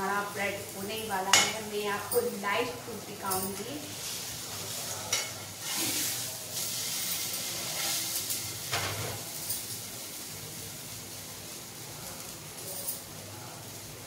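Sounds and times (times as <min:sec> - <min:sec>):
bread sizzling in frying oil: 0:00.0 - 0:14.0.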